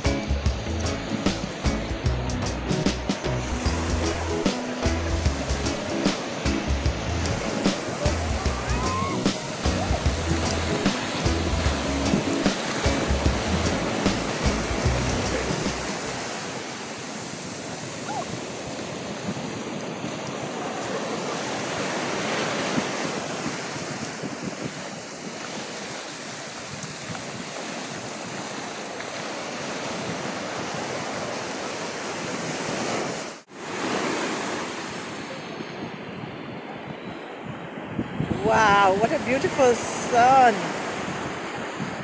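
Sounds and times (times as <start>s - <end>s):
sea surf breaking on sand: 0.0s - 42.0s.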